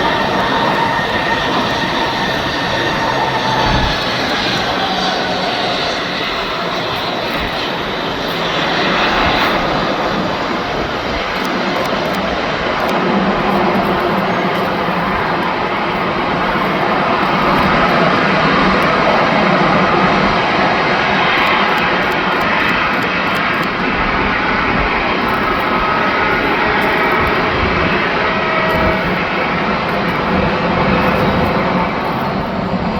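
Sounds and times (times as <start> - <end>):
faint whining tones: 0.0 - 32.9
jet engines running: 0.0 - 32.9.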